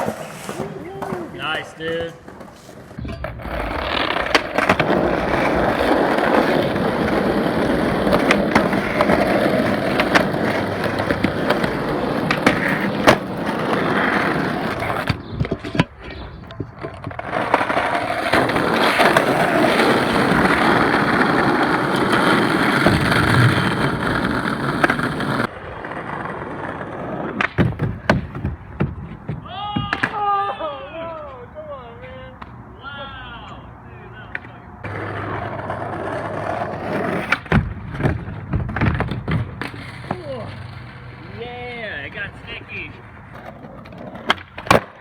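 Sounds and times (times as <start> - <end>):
skateboard clicks and knocks: 0.0 - 31.4, 34.2 - 45.0
skateboard wheels rolling on pavement: 0.0 - 45.0.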